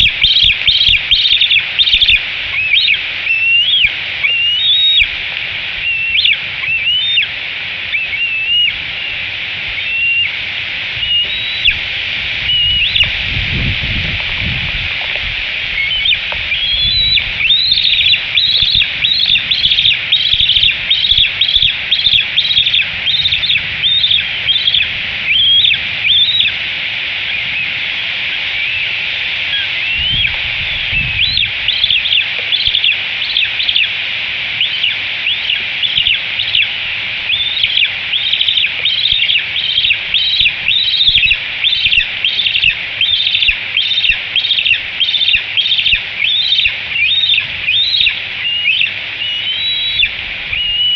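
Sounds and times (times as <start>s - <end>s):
eaglet high-pitched chirping: 0.0s - 5.2s, 5.8s - 10.4s, 11.0s - 11.8s, 12.4s - 13.2s, 15.7s - 26.6s, 27.3s - 34.0s, 34.6s - 50.9s
steady high hiss: 0.0s - 50.9s.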